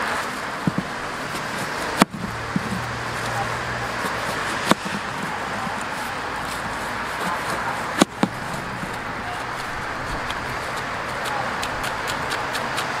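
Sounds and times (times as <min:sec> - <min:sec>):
outdoor background noise: 0:00.0 - 0:13.0
knife cutting pineapple: 0:00.7 - 0:13.0.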